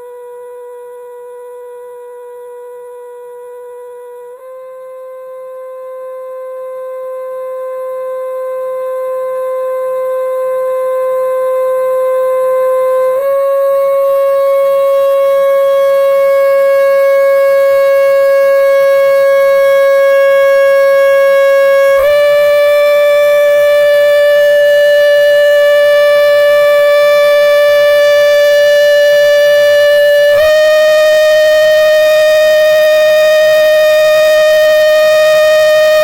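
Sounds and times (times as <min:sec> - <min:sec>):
loud steady held tone: 0:00.0 - 0:36.0.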